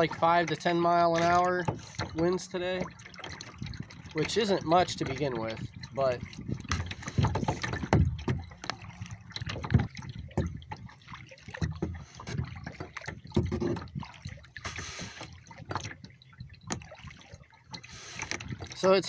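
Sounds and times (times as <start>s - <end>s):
kayak paddle splashing: 0.0s - 19.0s
water dripping off paddle: 0.0s - 19.0s.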